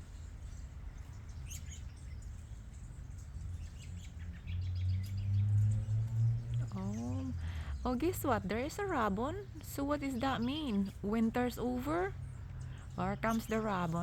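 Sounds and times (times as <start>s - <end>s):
low steady hum: 0.0s - 14.0s
small birds chirping: 0.0s - 14.0s.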